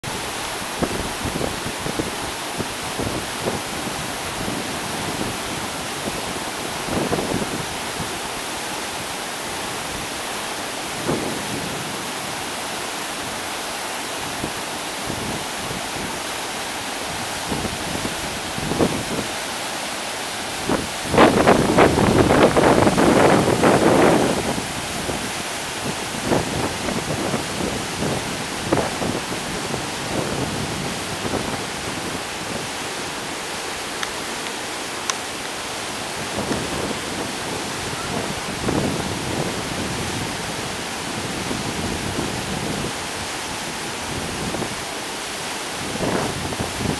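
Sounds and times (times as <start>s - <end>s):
river rapids rushing: 0.0s - 46.9s.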